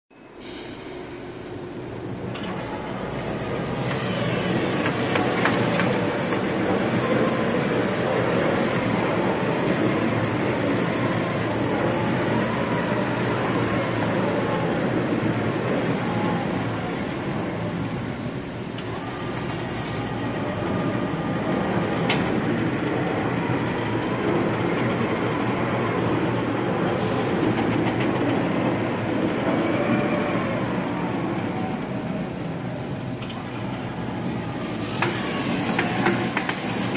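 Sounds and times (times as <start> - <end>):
faint machine whine: 0.2 - 36.9
stretch wrapper machine running: 1.4 - 36.9.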